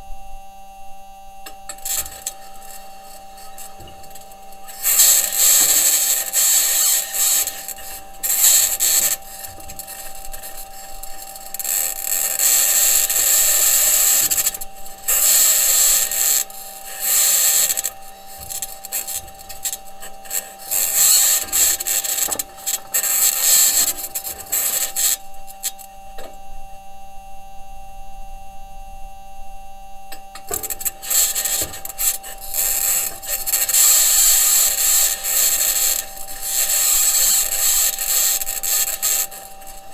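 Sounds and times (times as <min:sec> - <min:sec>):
steady two-tone hum: 0:00.0 - 0:39.9
rover wheels scraping: 0:01.5 - 0:25.9, 0:30.3 - 0:39.9.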